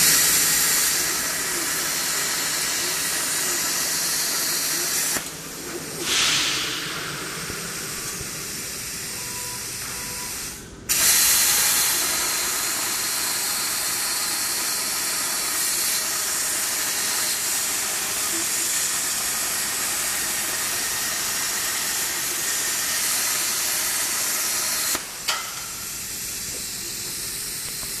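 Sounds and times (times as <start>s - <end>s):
plasma cutter arc hissing: 0.0s - 28.0s.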